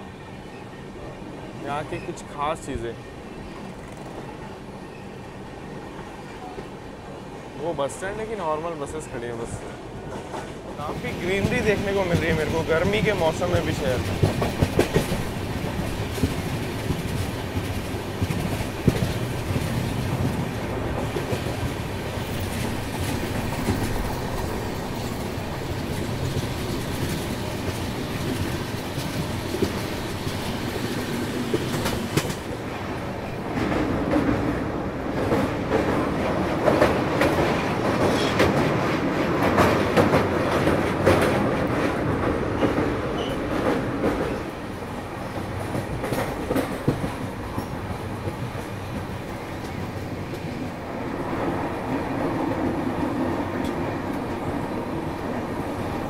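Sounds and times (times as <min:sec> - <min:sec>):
train wheels rumbling on rails: 0:00.4 - 0:56.0.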